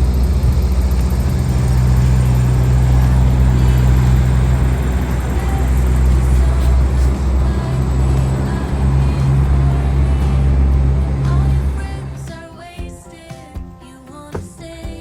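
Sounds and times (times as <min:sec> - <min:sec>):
van engine and road noise: 0:00.0 - 0:12.4.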